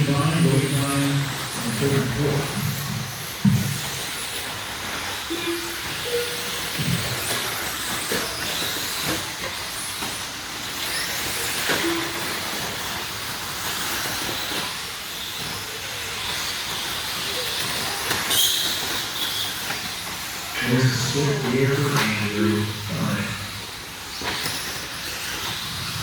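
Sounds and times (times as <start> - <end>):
electric motors and tyres hissing: 0.0 - 26.0
rc truck motors whining: 0.0 - 26.0.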